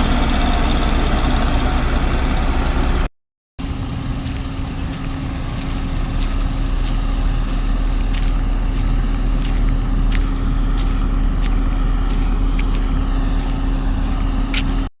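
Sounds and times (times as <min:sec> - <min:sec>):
diesel engine rumbling: 0:00.0 - 0:14.9.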